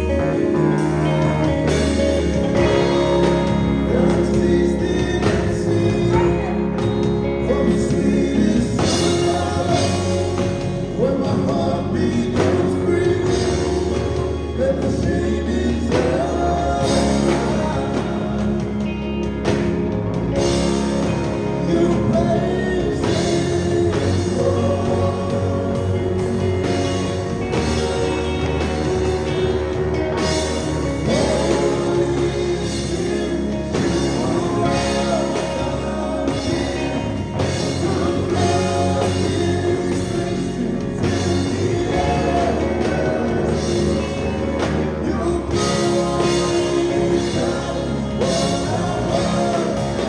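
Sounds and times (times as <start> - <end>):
men singing into microphones: 0.0 - 19.7, 20.4 - 50.0
drum kit: 0.0 - 50.0
electric guitars: 0.0 - 50.0
keyboard: 0.0 - 50.0.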